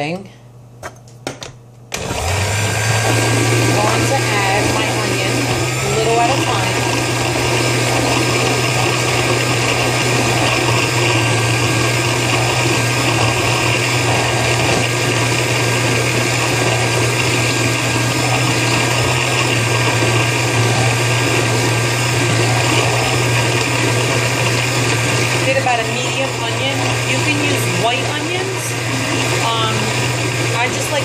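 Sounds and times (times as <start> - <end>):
blender motor humming: 1.9 - 31.0.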